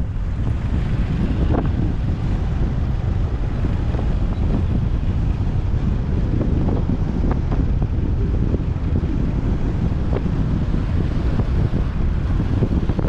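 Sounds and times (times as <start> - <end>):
traffic noise: 0.0 - 13.0
wind buffeting microphone: 0.0 - 13.0.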